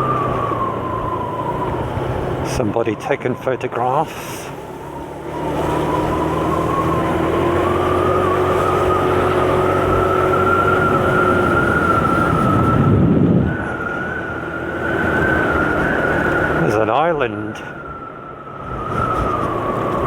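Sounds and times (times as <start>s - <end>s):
scooter engine whine: 0.0s - 20.0s.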